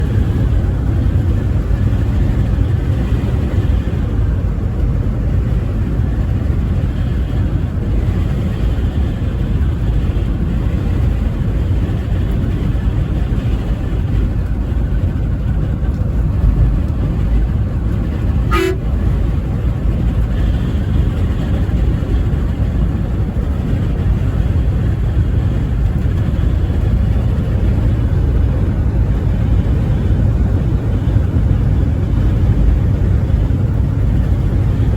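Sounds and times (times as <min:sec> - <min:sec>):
truck road and engine rumble: 0:00.0 - 0:34.9.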